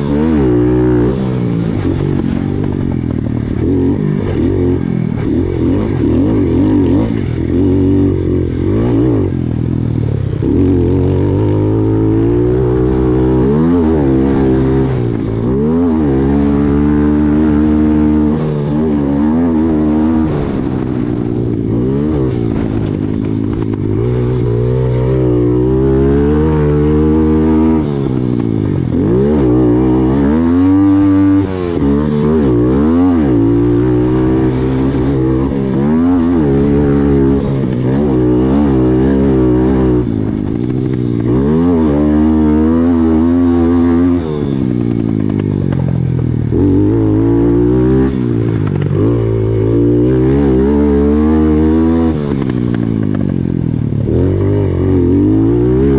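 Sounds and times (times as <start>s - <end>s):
motorbike engine revving: 0.0s - 55.9s.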